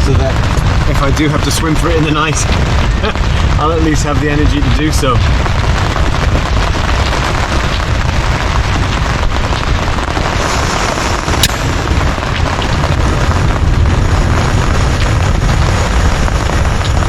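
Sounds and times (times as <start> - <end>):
heavy rain drumming on a tent: 0.0 - 17.0
thunder rumbling: 0.0 - 17.0.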